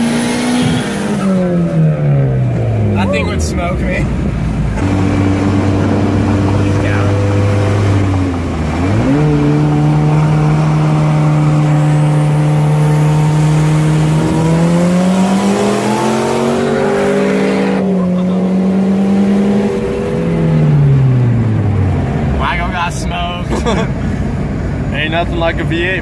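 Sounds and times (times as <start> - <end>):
car engines at full throttle: 0.0 - 26.0.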